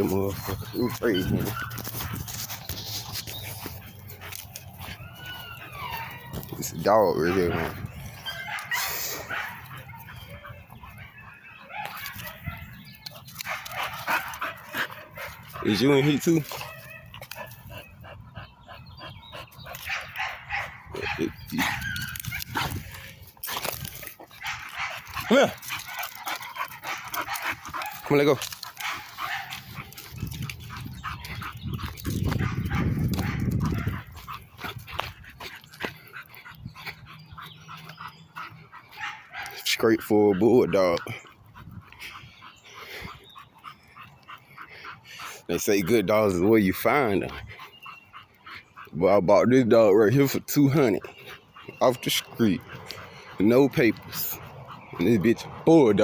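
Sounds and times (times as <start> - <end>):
dogs barking: 0.0 - 56.0.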